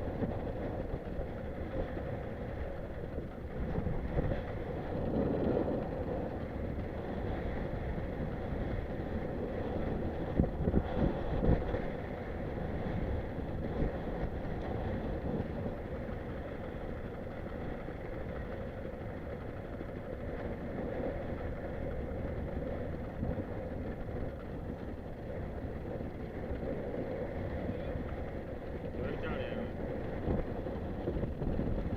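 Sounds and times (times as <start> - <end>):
boat engine running: 0.0 - 31.9.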